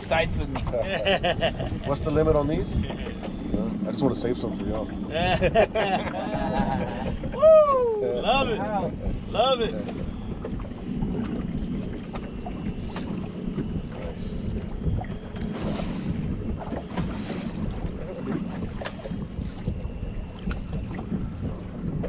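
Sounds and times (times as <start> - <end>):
boat engine low rumble: 0.0 - 22.0
wind buffeting microphone: 0.0 - 22.0.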